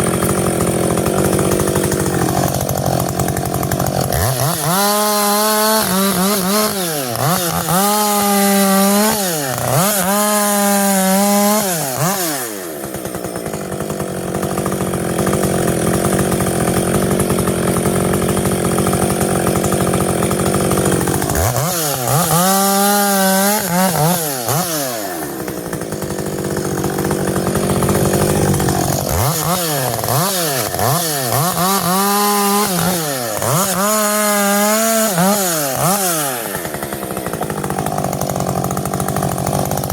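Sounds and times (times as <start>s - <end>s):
chainsaw cutting through wood: 0.0s - 39.9s
chainsaw revving: 0.0s - 39.9s.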